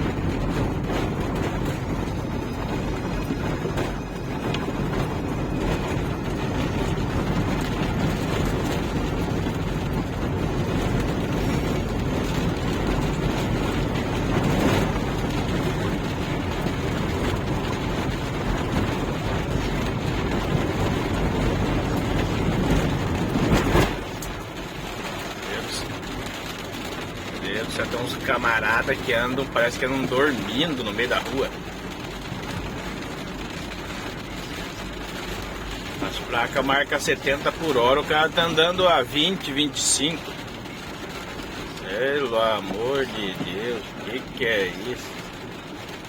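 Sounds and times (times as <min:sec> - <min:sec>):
car driving in heavy rain: 0:00.0 - 0:46.0.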